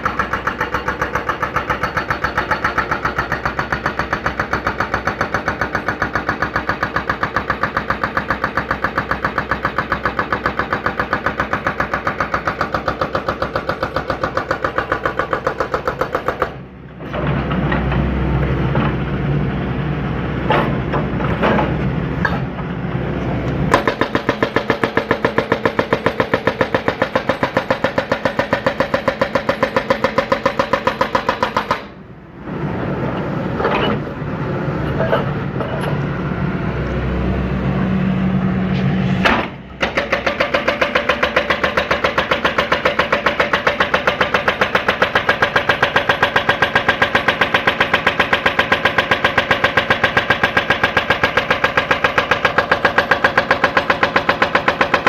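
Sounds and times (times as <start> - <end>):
excavator diesel engine pulsing: 0.0 - 55.0.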